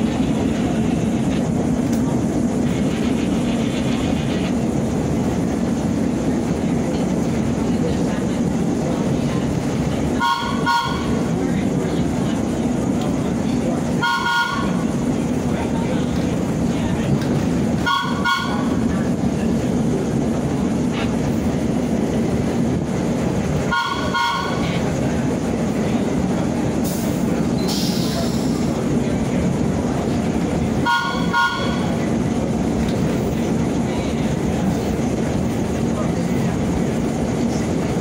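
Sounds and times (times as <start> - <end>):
subway train rumbling on track: 0.0 - 38.0.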